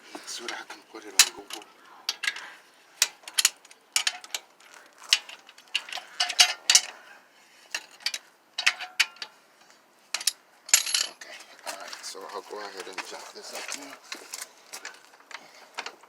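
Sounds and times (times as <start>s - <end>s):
hand tools clicking and clanking: 0.0s - 7.0s, 7.6s - 16.0s.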